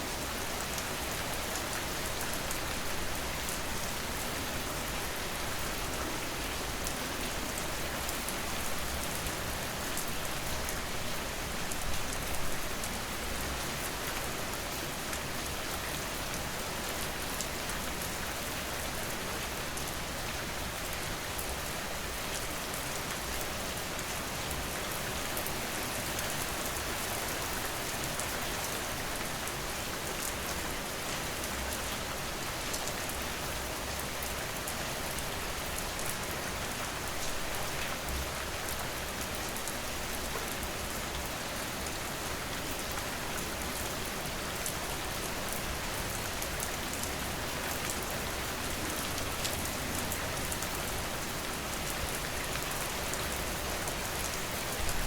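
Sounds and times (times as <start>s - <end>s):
heavy rain on hard surfaces: 0.0s - 55.0s.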